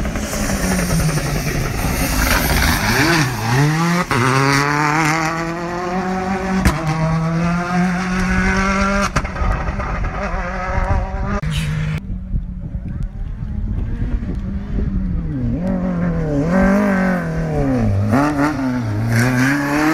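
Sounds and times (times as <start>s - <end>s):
rally car engine passing: 0.0s - 12.1s, 13.6s - 19.9s.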